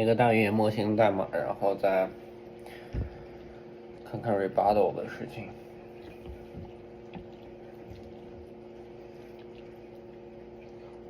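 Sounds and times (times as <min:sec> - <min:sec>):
household appliance humming: 0:00.0 - 0:11.0.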